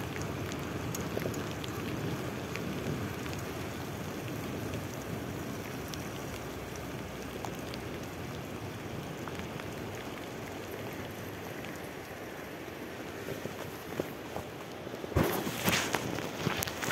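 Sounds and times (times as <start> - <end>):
bicycle tyres rolling on wet path: 0.0 - 16.9
rain hissing: 0.0 - 16.9.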